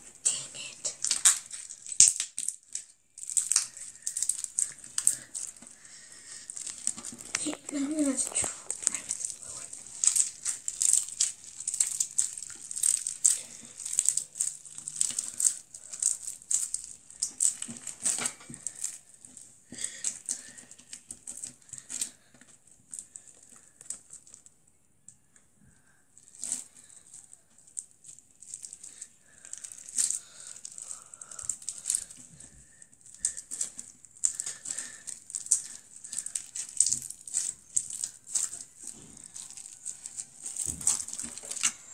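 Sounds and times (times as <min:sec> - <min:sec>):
slime crackling and crinkling: 0:00.0 - 0:41.9.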